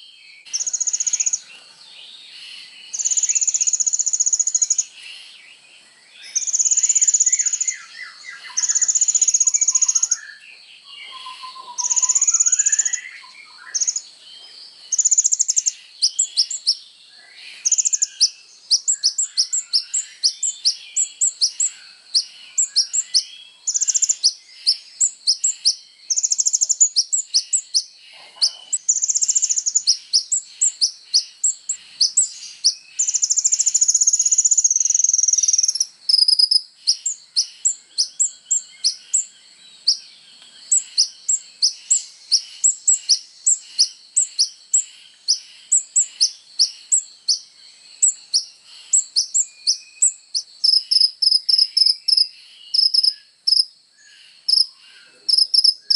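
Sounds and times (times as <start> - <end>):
high buzzing bird trills: 0.0 - 5.3, 6.2 - 55.9
bird singing high chirps: 0.0 - 55.9.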